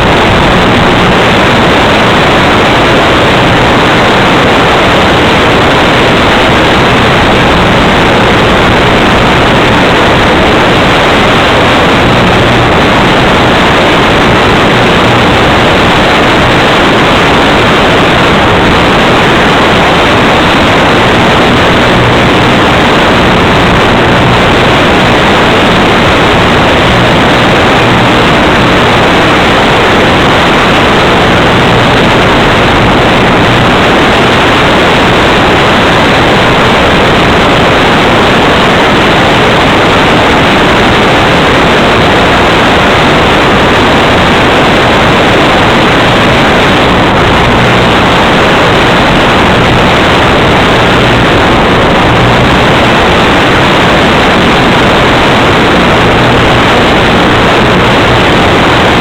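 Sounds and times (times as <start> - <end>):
loud steady hiss: 0.0 - 59.0.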